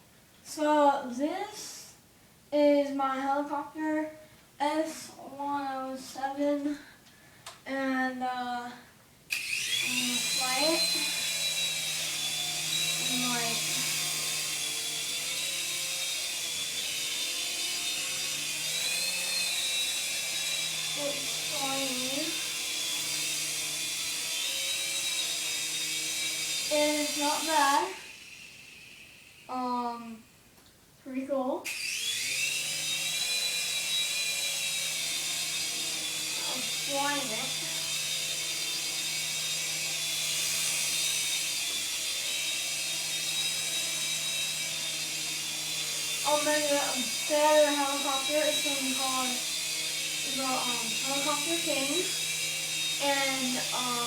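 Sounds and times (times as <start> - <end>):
toy helicopter motor whine: 9.3 - 30.4, 31.6 - 54.0.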